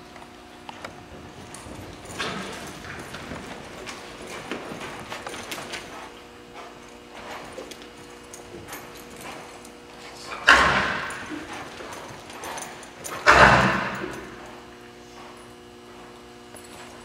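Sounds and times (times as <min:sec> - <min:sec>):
horse hooves in sand: 0:00.0 - 0:17.0.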